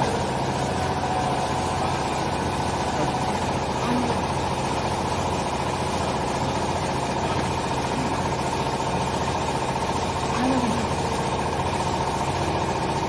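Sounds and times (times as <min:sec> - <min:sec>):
baler machine humming: 0:00.0 - 0:13.0.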